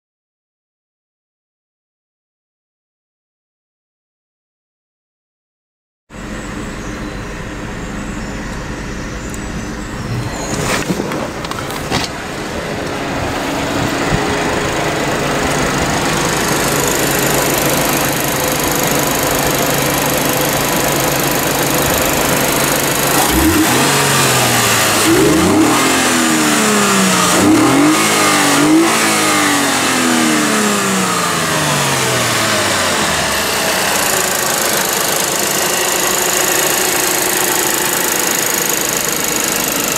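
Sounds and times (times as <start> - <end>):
car engine idling: 6.1 - 39.9
car engine revving: 6.2 - 39.9.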